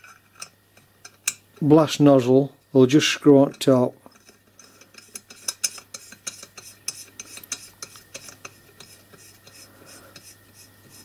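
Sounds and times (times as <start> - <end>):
light metallic clicks and scrapes: 0.0 - 1.4, 3.5 - 11.0.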